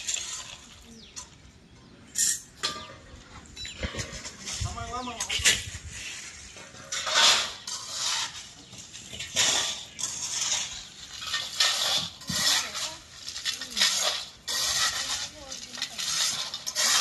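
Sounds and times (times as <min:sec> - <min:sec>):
bricks and tools scraping on concrete: 0:00.0 - 0:01.4, 0:02.1 - 0:17.0.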